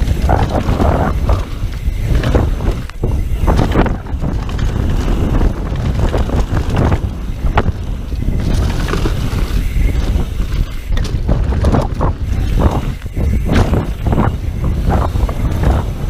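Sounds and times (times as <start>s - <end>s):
bike rattling over bumps: 0.0s - 16.0s
bike tyre noise on dirt: 0.0s - 16.0s
wind on microphone: 0.0s - 16.0s.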